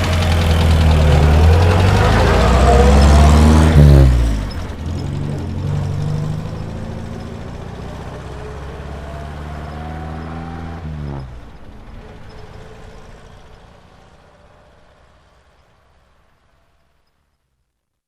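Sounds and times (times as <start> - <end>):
bus engine pulling away: 0.0 - 17.1.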